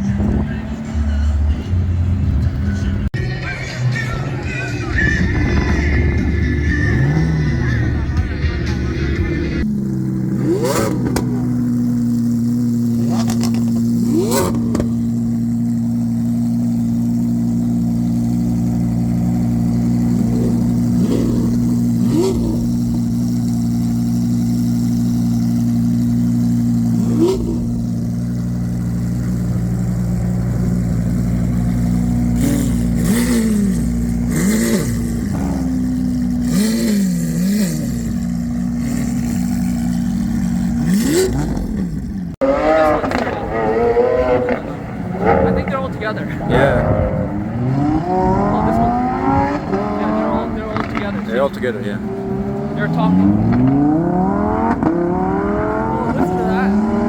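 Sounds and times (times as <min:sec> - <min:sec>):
car engine idling with rev blips: 0:04.0 - 0:57.0.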